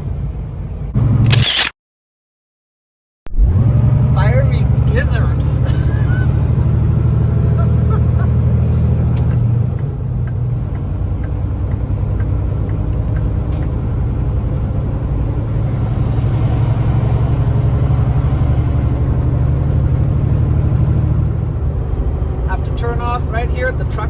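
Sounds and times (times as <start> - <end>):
road noise: 0.0 - 1.7, 3.3 - 24.0
truck diesel engine drone: 0.0 - 1.7, 3.3 - 24.0.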